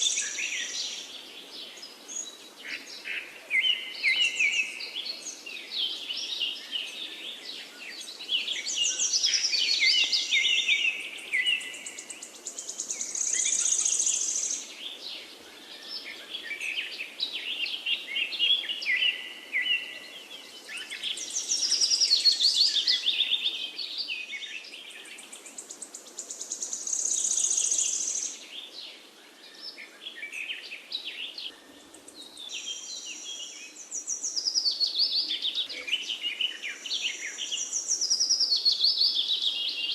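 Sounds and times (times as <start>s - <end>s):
faint steady hiss: 0.0s - 39.9s
songbirds singing and chirping: 0.0s - 39.9s.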